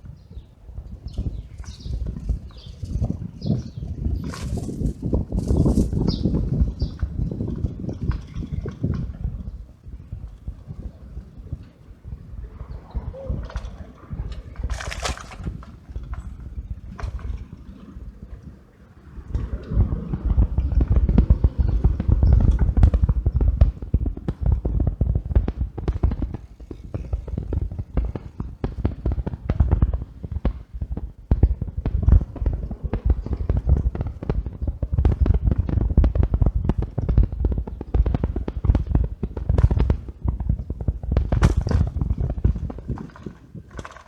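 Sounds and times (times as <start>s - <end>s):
bicycle rattling on rough surface: 0.0s - 44.0s.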